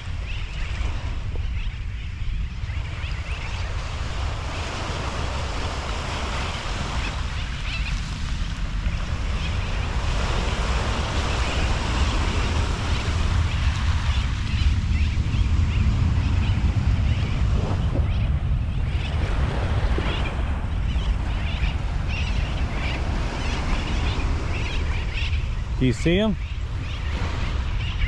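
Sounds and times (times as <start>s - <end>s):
small waves washing on beach: 0.0s - 28.0s
wind buffeting microphone: 0.0s - 28.0s.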